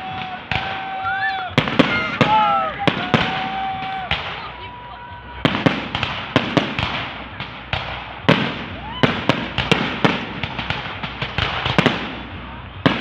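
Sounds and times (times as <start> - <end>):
fireworks banging: 0.0 - 13.0
fireworks crackling: 0.0 - 13.0.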